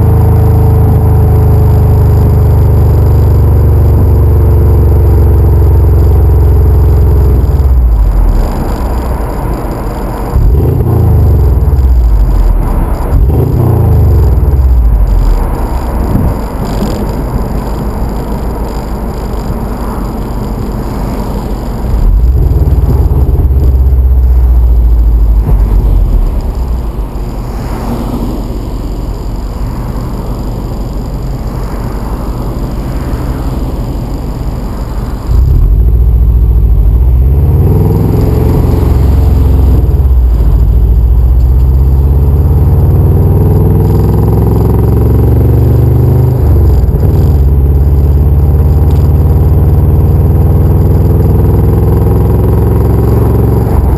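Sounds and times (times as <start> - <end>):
car exhaust revving: 0.0 - 53.9.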